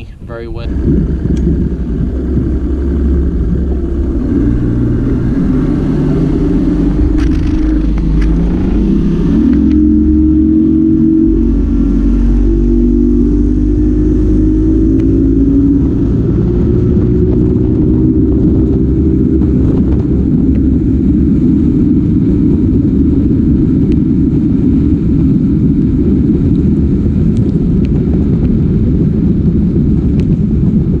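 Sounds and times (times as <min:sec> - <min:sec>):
boat motor rumbling: 0:00.0 - 0:31.0.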